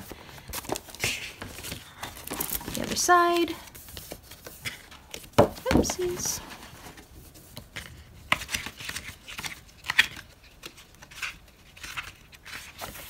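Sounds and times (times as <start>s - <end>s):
paper sheets rustling and sliding: 0.0s - 13.0s.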